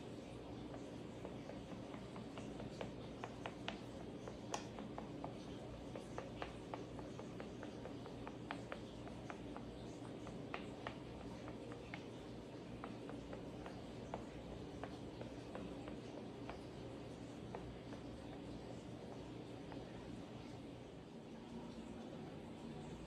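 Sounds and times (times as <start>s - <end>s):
soft taps and clicks of dough: 0.0s - 20.7s
low steady hum: 0.0s - 23.0s.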